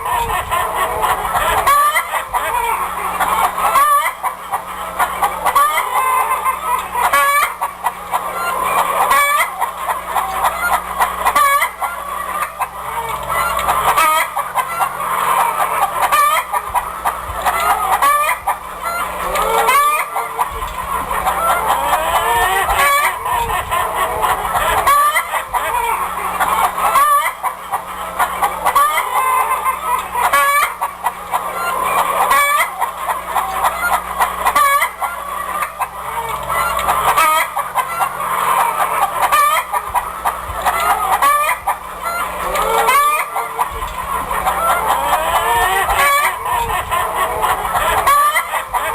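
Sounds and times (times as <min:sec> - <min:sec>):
chickens clucking: 0:00.0 - 0:48.9
roosters crowing: 0:00.0 - 0:48.9.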